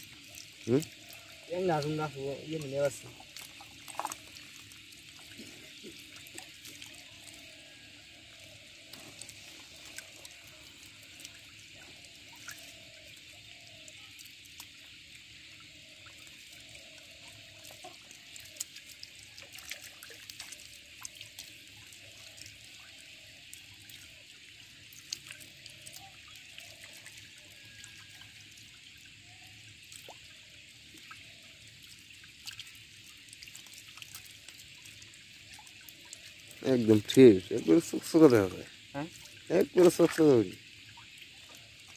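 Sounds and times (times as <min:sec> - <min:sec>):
wet clicks and splashes: 0:00.0 - 0:07.5, 0:08.3 - 0:15.0, 0:15.6 - 0:29.1, 0:29.7 - 0:41.9
water trickling and dripping: 0:00.0 - 0:41.9.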